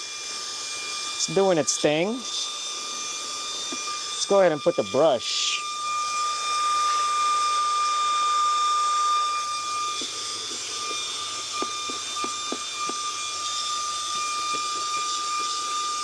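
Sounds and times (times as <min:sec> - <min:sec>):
handheld vacuum running: 0:00.0 - 0:16.0.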